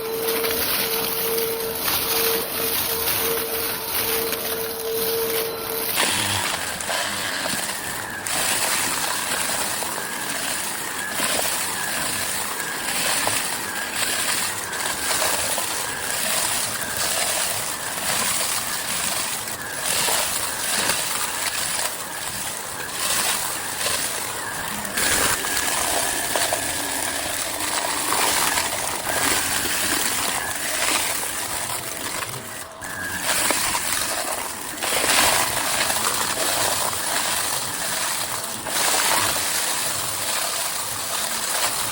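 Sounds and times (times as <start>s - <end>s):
vacuum cleaner motor whine: 0.0s - 41.9s.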